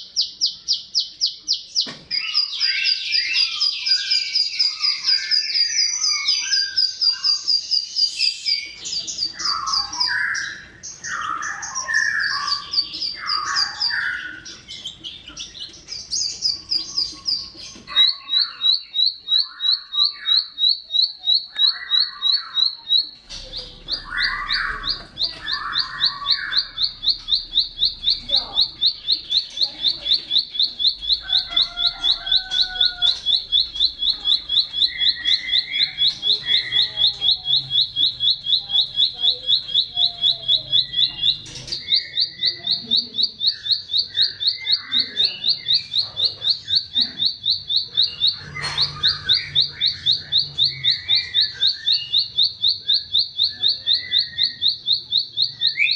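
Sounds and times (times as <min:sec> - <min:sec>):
other birds chirping softly: 0:00.0 - 0:55.9.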